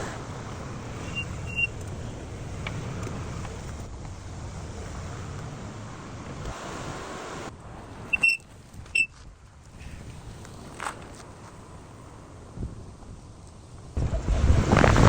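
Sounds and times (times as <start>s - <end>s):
brakes squealing: 0.0s - 12.4s
car and road noise: 0.0s - 15.0s.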